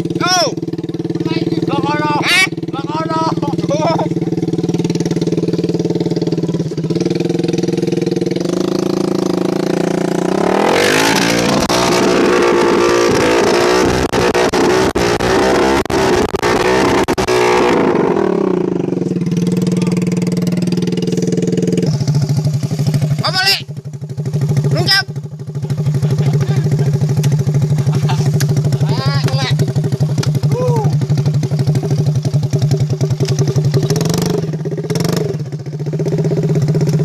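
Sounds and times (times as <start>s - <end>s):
vehicle engine revving: 0.0s - 37.0s.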